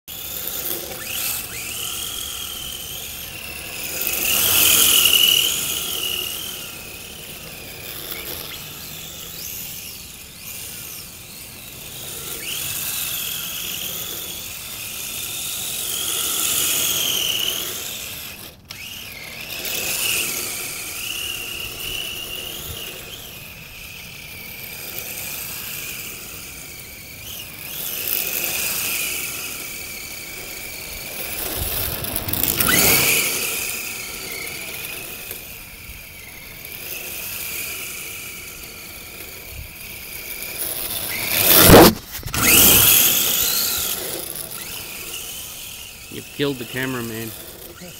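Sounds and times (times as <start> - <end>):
rc car motor and gear whine: 0.1 - 47.9.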